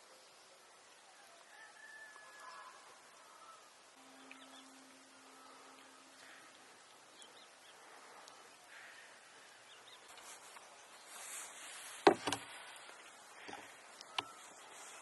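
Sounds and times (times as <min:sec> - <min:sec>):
faint steady hum: 0:00.0 - 0:15.0
faint bird chirps: 0:00.1 - 0:15.0.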